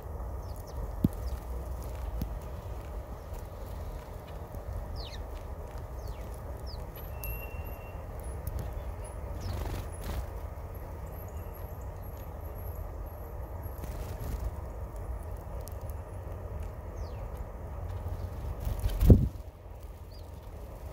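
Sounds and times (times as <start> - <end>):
small birds chirping: 0.0 - 20.9
steady low rumble: 0.0 - 20.9.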